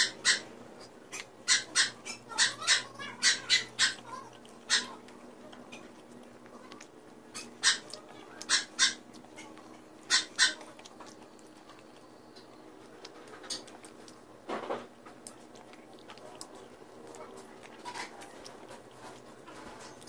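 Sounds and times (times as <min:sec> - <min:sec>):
crunching fried chicken: 0:00.0 - 0:20.0
soft chewing: 0:00.0 - 0:20.0.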